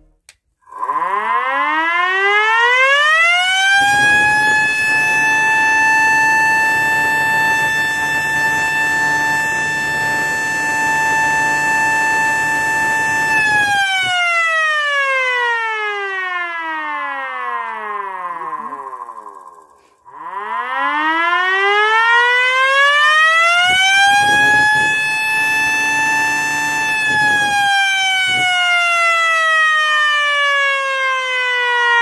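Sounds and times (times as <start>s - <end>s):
siren wailing: 0.7s - 32.0s.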